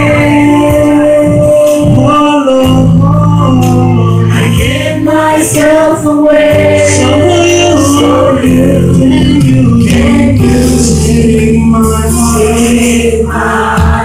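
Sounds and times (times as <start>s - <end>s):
amplified instrumental accompaniment: 0.0s - 14.0s
man and girl singing: 0.0s - 14.0s.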